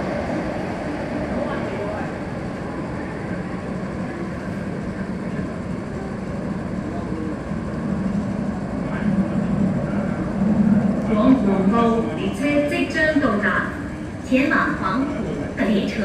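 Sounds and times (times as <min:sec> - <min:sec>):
train rumbling in tunnel: 0:00.0 - 0:16.0.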